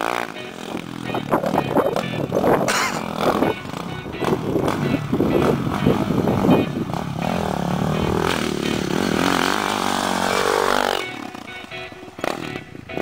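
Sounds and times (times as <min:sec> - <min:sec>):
background music: 0:00.0 - 0:13.0
motocross bike engine revving: 0:00.0 - 0:13.0.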